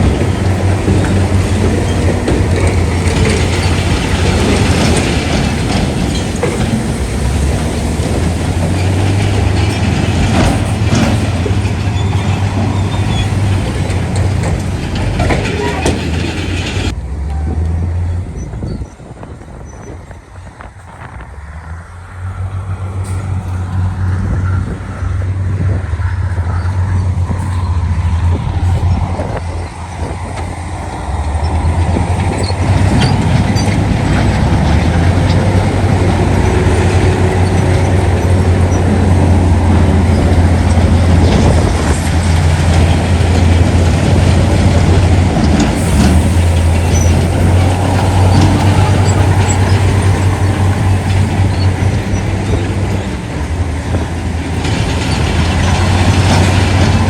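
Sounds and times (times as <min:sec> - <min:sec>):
heavy machinery diesel engine rumble: 0:00.0 - 0:57.0.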